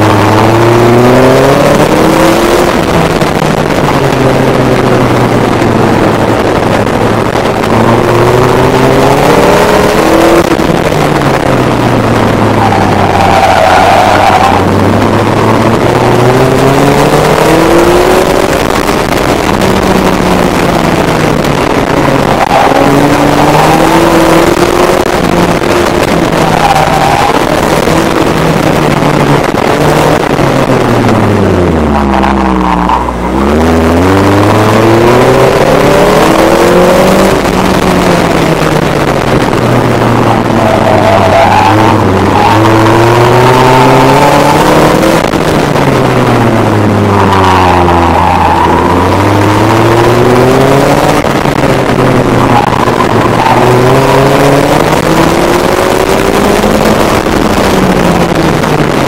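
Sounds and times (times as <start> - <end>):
car engine revving: 0.0 - 59.0
wind noise: 0.0 - 59.0.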